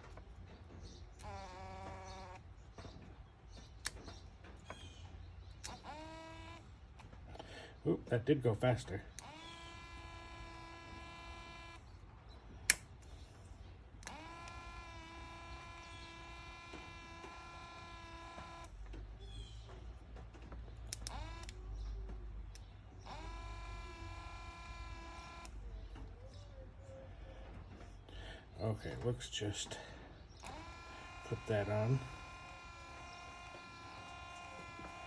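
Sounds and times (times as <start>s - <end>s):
wiper motor whining: 0.0s - 7.7s, 8.9s - 28.1s, 29.0s - 35.0s.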